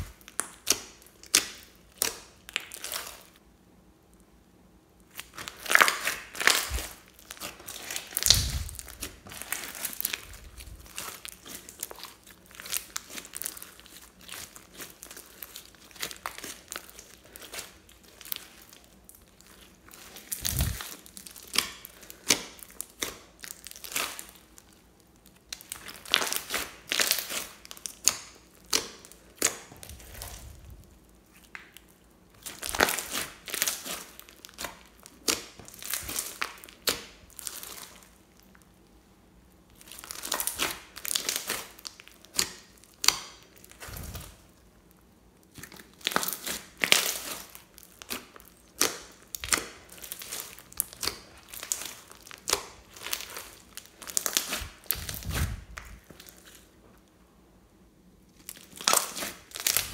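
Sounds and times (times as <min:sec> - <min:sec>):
hands squishing slime: 0:00.0 - 0:03.4, 0:05.1 - 0:38.6, 0:39.7 - 0:44.6, 0:45.4 - 0:56.7, 0:58.4 - 0:59.9
slime crackling and popping: 0:00.0 - 0:03.4, 0:05.0 - 0:38.8, 0:39.7 - 0:56.7, 0:58.4 - 0:59.9.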